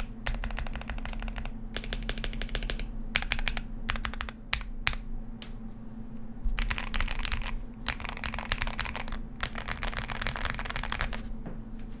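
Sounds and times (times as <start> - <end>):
mechanical keyboard typing: 0.0 - 5.0, 6.6 - 11.2.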